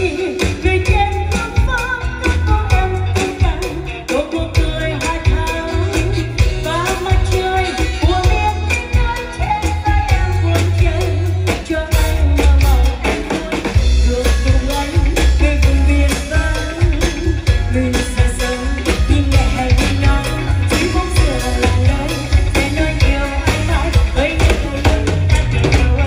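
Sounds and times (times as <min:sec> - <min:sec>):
live band playing: 0:00.0 - 0:26.0
woman singing into microphone: 0:00.0 - 0:26.0.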